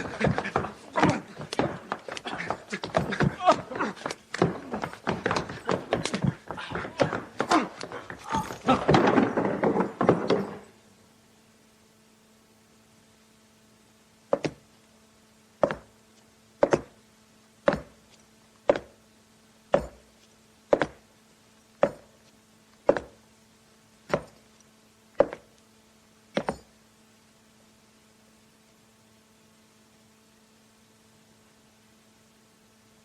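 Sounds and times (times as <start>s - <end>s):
faint hum and hiss: 0.0s - 33.0s.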